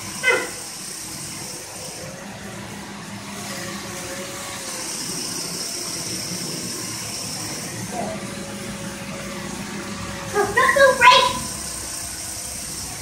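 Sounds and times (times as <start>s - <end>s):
toy flying saucer motor whine: 0.0s - 13.0s.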